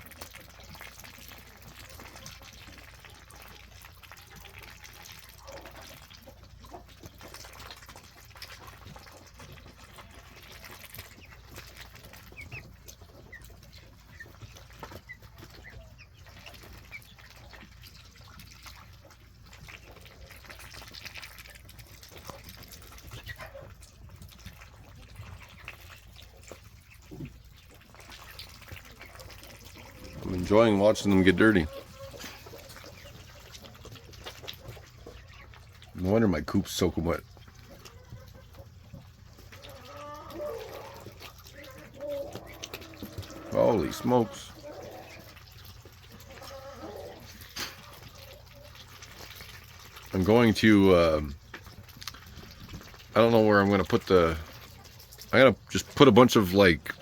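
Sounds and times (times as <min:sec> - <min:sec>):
ducklings peeping: 0:00.0 - 0:57.0
ducks dabbling in muddy water: 0:00.0 - 0:57.0.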